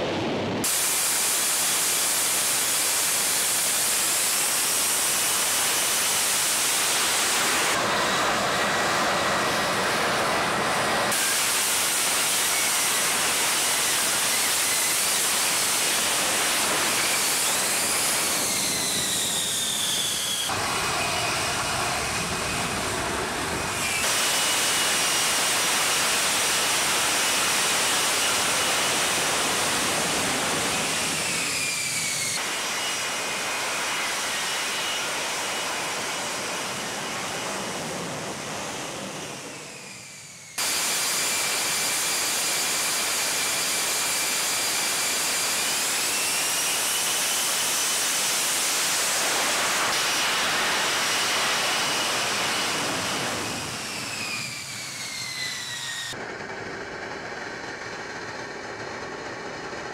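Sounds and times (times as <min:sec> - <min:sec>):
jet engine roaring with turbine whine: 0:00.0 - 0:59.9.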